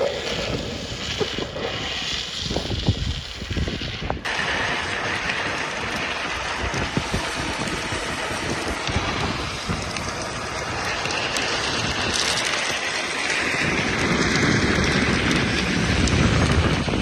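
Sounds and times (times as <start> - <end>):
steady rushing noise: 0.0 - 17.0
wind buffeting microphone: 0.0 - 17.0.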